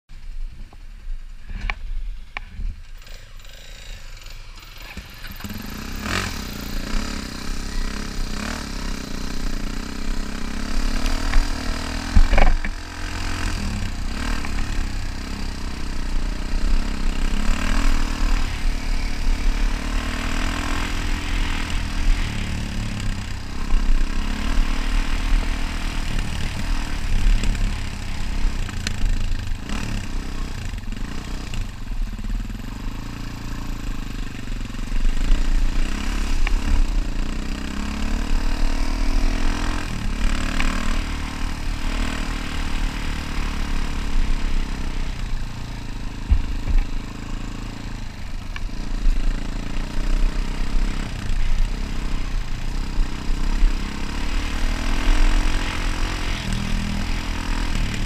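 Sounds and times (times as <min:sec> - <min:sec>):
dirt bike engine revving: 0:02.8 - 0:58.0.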